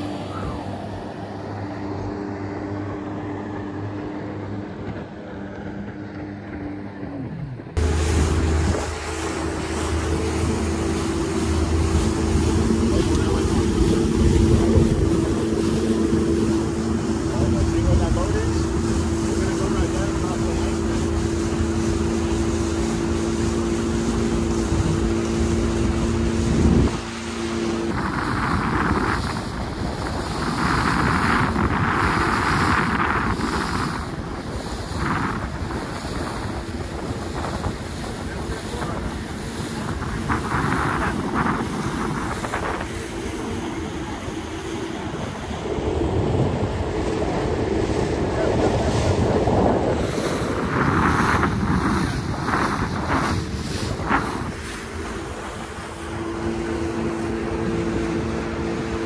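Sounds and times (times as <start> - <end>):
motorboat engine humming: 0.0 - 59.0
water lapping against hull: 0.0 - 59.0
wind buffeting microphone: 0.0 - 59.0.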